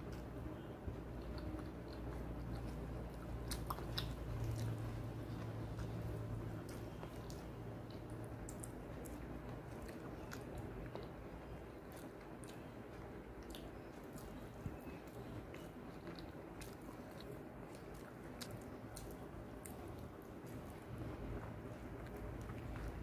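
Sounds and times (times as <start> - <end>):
person chewing: 1.0 - 23.0.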